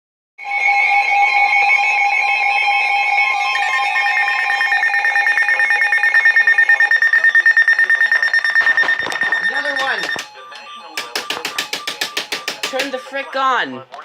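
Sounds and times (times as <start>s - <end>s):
rapidly pulsing high beep: 0.4s - 13.7s
emergency alert tones: 0.4s - 13.8s.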